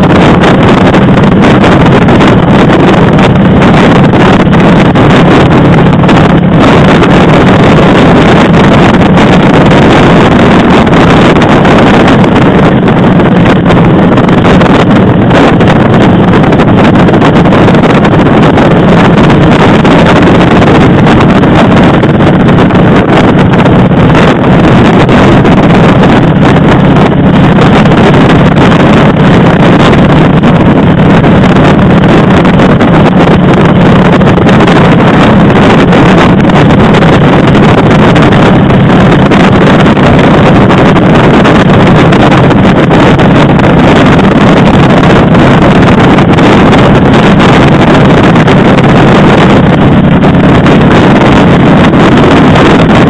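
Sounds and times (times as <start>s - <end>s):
motorcycle engine running: 0.0s - 53.0s
wind noise on microphone: 0.0s - 53.0s.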